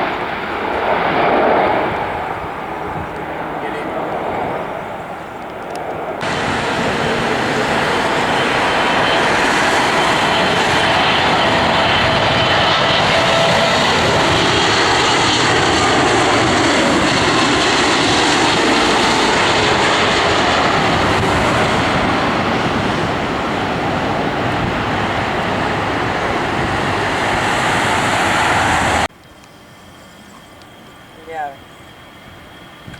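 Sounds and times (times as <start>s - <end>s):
airliner engines roaring: 0.0s - 32.9s.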